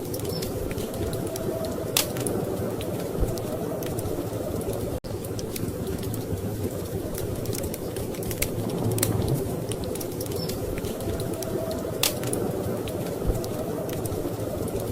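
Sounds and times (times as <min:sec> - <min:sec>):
storm wind rushing: 0:00.0 - 0:14.9
wood fire crackling: 0:00.0 - 0:14.9.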